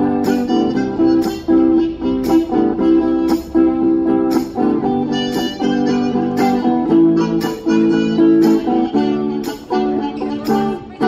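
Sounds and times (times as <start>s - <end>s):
guitar strummed: 0.0s - 11.0s
harmonica playing: 0.0s - 11.0s.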